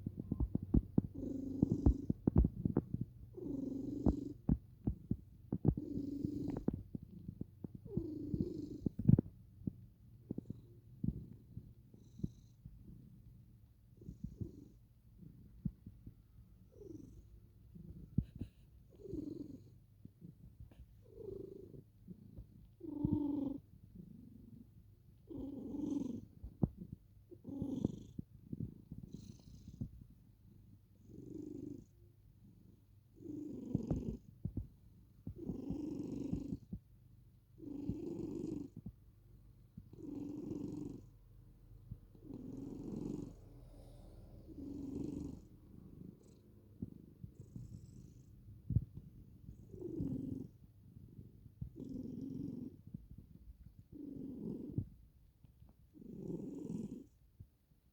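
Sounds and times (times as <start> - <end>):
cat purring: 0.0 - 57.9.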